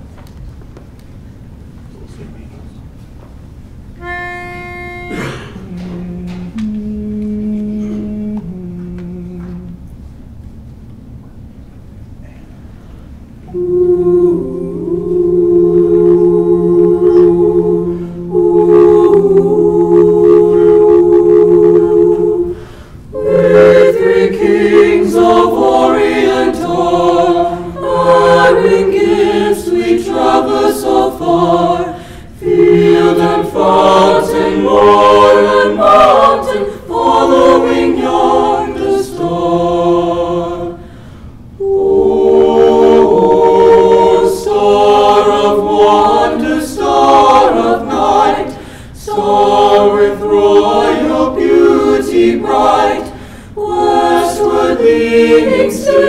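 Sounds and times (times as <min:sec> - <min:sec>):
choir singing a cappella: 0:04.0 - 0:09.9, 0:13.4 - 0:56.0.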